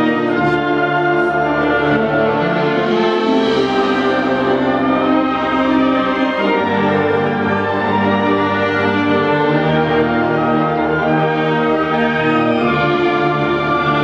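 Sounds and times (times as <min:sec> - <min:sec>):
wind band playing sustained chords: 0:00.0 - 0:14.0.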